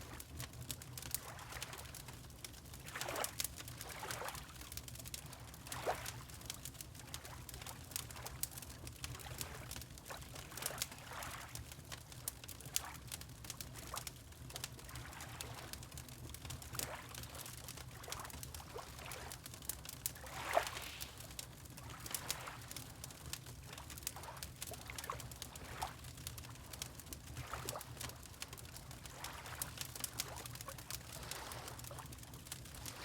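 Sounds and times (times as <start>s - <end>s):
fireplace crackling and popping: 0.1s - 10.9s, 11.5s - 33.0s
water lapping and gurgling: 0.1s - 33.0s.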